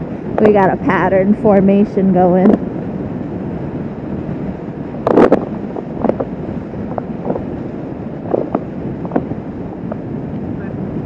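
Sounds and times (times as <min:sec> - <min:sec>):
motorcycle engine running: 0:00.0 - 0:10.7
wind rushing over microphone: 0:00.0 - 0:11.0.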